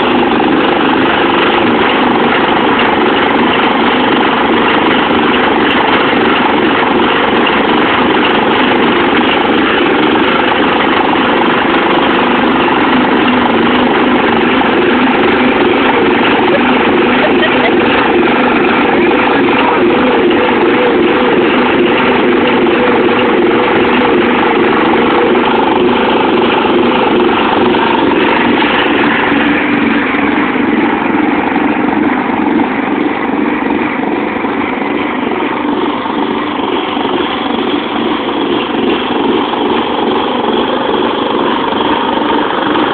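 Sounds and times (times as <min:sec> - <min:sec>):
lawnmower engine running: 0:00.0 - 0:42.9.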